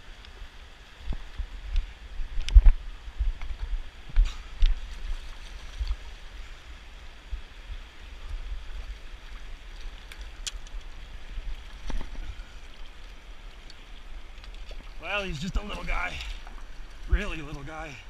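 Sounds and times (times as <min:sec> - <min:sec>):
river water rushing over cobbles: 0:00.0 - 0:18.0.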